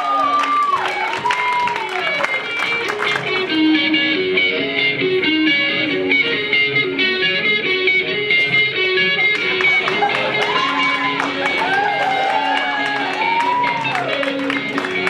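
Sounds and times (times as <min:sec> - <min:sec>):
guitar-led band music: 0:00.0 - 0:15.0.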